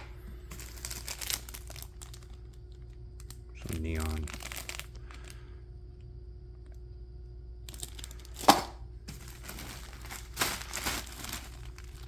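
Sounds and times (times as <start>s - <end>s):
plastic wrapping crinkling: 0.0s - 5.4s, 7.6s - 12.0s.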